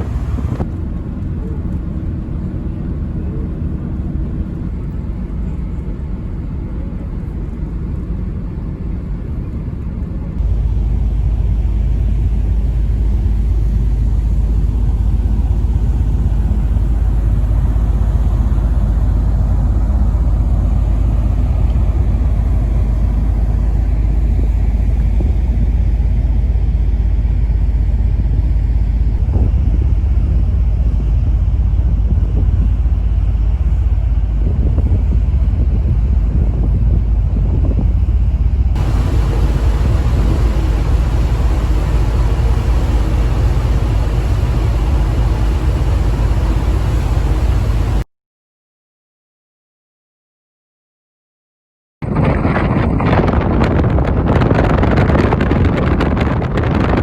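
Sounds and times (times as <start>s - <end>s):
ferry engine rumble and wind: 0.0s - 48.1s, 52.0s - 57.0s.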